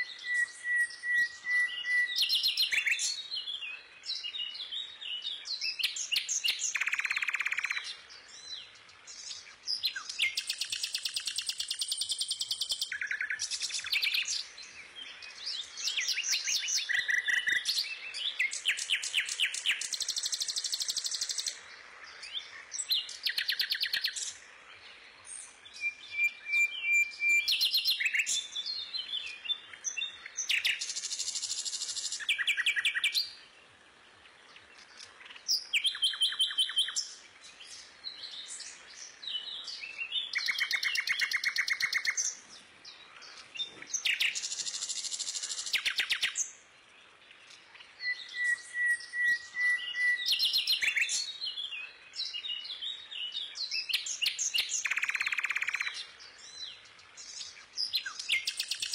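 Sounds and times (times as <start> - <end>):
songbird trilling and chirping: 0.0 - 58.9.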